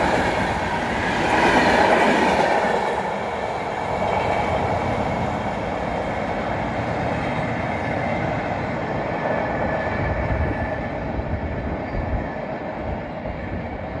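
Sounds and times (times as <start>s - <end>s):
train passing on rails: 0.0s - 14.0s.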